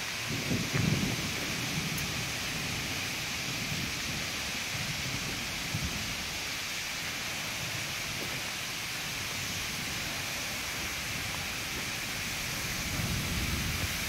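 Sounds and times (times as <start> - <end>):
rain: 0.0 - 14.0
waterfall running down rock: 0.0 - 14.0.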